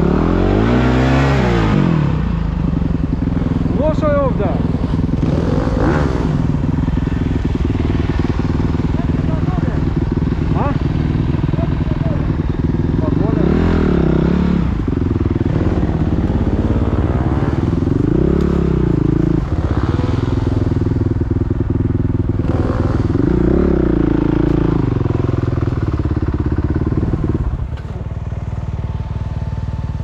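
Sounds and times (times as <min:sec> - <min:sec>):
dirt bike engine revving: 0:00.0 - 0:27.7.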